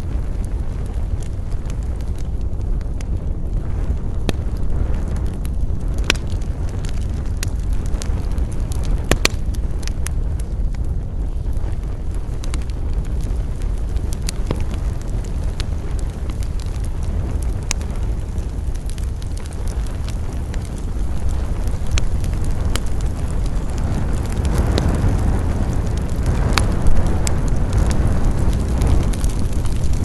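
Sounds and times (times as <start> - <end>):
campfire wood crackling and popping: 0.0 - 30.0
steady low rumble: 0.0 - 30.0.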